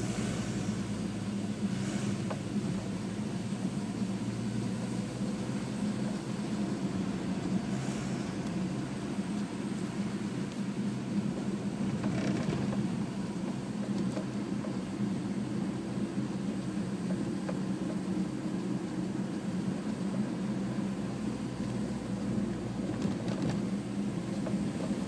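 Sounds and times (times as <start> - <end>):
car engine drone: 0.0 - 25.0
road noise: 0.0 - 25.0.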